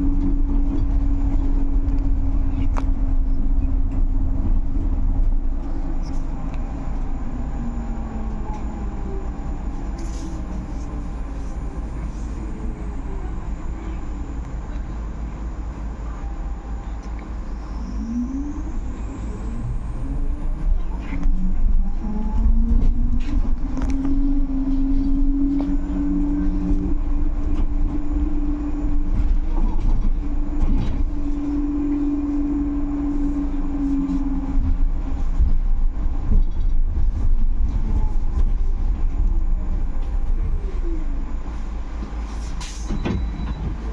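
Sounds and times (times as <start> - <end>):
road rumble and rattles: 0.0 - 43.9.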